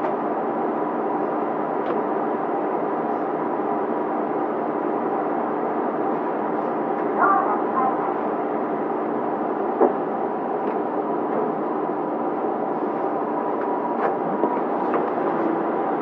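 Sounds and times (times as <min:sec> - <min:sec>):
train diesel engine hum: 0:00.0 - 0:16.0.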